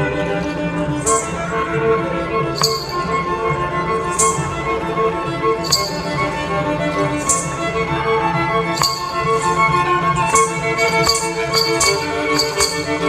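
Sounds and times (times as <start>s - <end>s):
violin slow melody: 0.0s - 13.0s
jingling percussion strikes: 0.8s - 13.0s.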